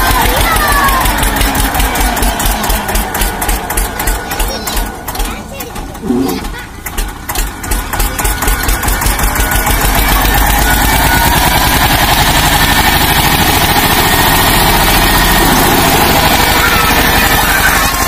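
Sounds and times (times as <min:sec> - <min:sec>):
tractor diesel engine labouring: 0:00.0 - 0:18.0.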